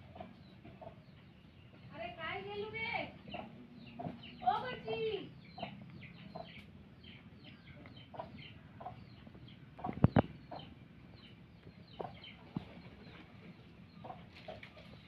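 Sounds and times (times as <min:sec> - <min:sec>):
bird clucking calls: 0:00.0 - 0:01.9, 0:03.2 - 0:15.0
birds chirping: 0:00.0 - 0:15.0.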